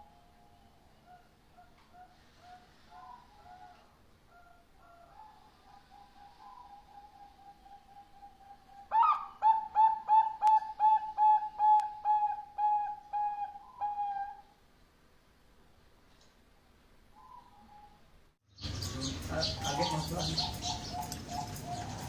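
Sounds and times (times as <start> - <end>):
dove cooing notes: 0.0 - 14.5, 18.8 - 22.0.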